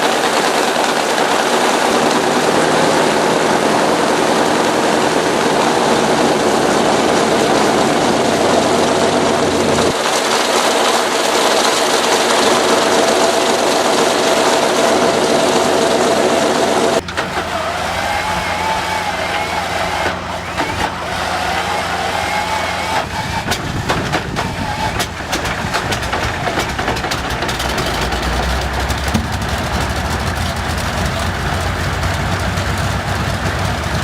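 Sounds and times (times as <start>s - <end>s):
propeller aircraft engine running: 0.0s - 34.0s.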